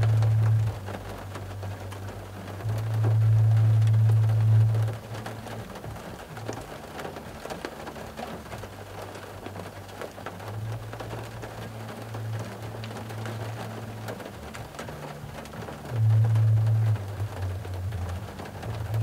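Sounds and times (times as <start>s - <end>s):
low steady hum: 0.0s - 19.0s
rain pattering on car roof: 0.0s - 19.0s.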